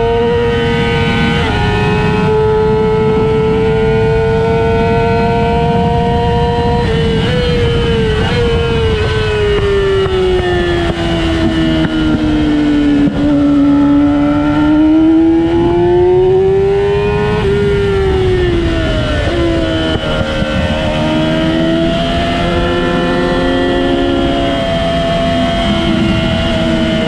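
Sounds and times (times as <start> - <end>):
race car engine: 0.0 - 27.0
wind noise: 0.0 - 27.0.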